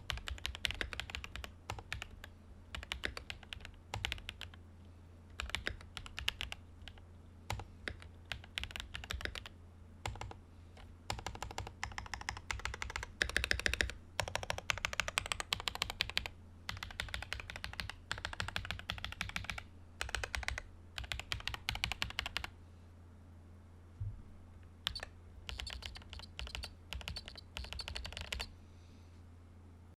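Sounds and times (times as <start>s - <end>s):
mechanical keyboard clacking: 0.0s - 4.6s, 5.4s - 10.4s, 11.1s - 22.5s, 24.8s - 28.5s
steady low hum: 0.0s - 30.0s.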